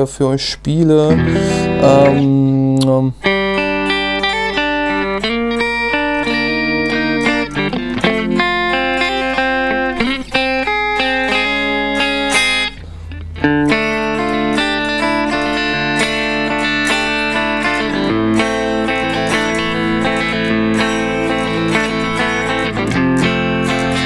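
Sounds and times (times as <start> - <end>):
clean electric guitar: 1.0 - 24.0.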